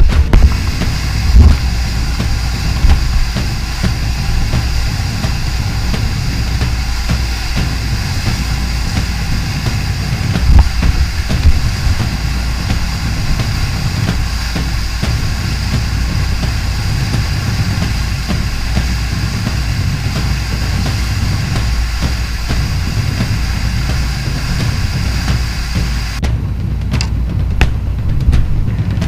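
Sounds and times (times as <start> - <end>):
whitewater rapids rushing: 0.0 - 26.3
loud thumps: 0.0 - 29.0.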